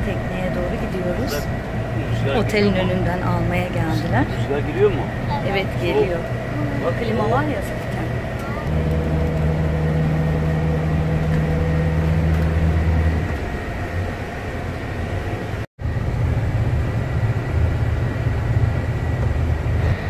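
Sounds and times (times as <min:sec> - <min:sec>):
minibus engine drone: 0:00.0 - 0:20.0
road noise: 0:00.0 - 0:20.0.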